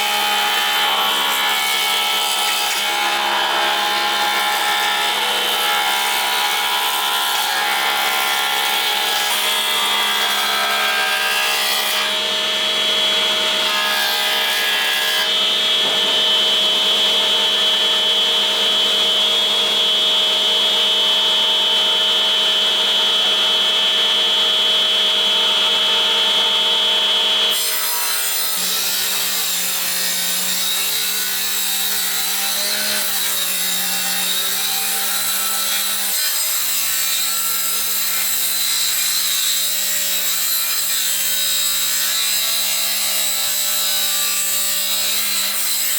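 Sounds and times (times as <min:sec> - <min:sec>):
power tool cutting wood: 0:00.0 - 0:45.9.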